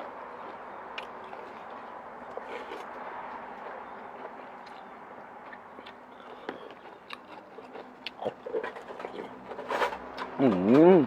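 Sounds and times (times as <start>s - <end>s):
person chewing noodles: 0.0s - 10.3s.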